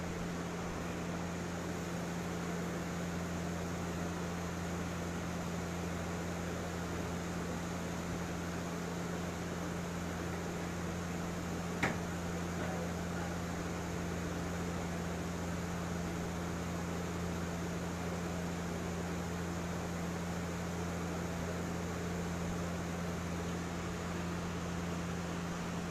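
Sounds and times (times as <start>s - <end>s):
low mechanical hum with hiss: 0.0s - 25.9s.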